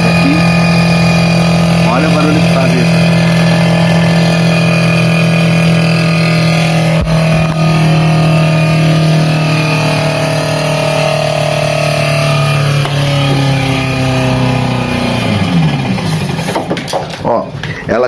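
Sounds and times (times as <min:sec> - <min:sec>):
refrigerator fan droning hum: 0:00.0 - 0:18.0.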